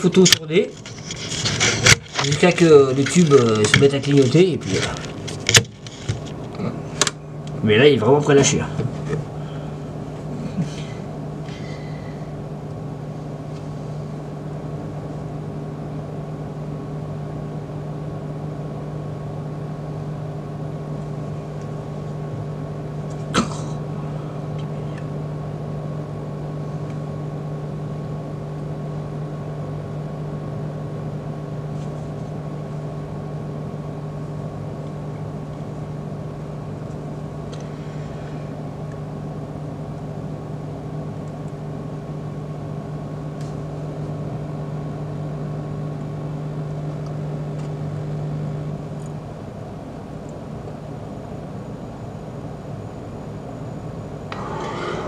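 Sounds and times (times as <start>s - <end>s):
fluorescent ballast humming: 0.0s - 55.0s.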